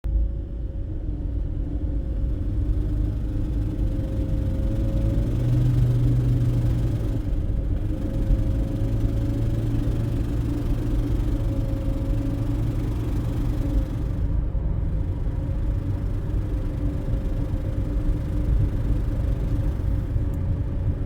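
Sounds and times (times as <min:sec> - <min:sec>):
car drivetrain rumble and drone: 0:00.1 - 0:21.0.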